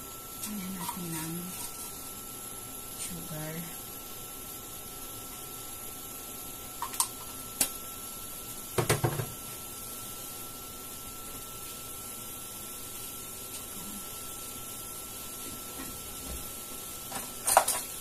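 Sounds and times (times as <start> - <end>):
faint constant tone: 0.0 - 18.0
kitchen hum and hiss: 0.0 - 18.0.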